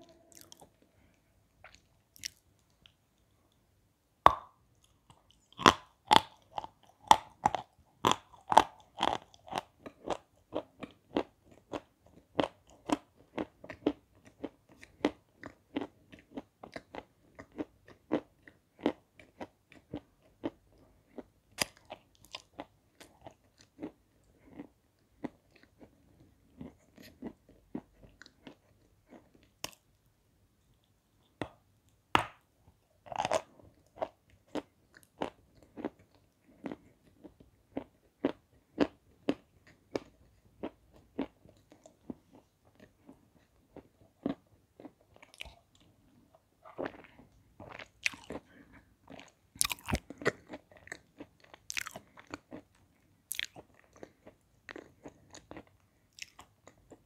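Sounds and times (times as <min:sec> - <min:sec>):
chalk crunching and chewing: 0:01.6 - 0:03.0, 0:04.8 - 0:29.9, 0:33.0 - 0:57.0.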